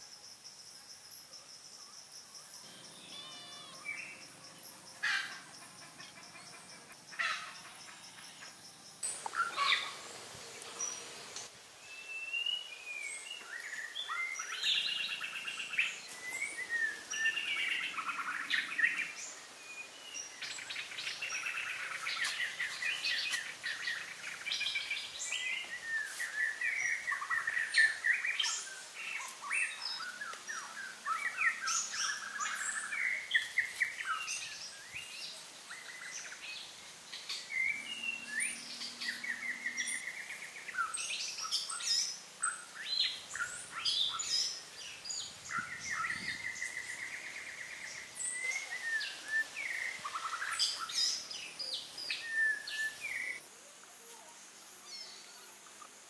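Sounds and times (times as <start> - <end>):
high insect hum: 0.0 - 56.0
birds chirping: 2.6 - 53.4.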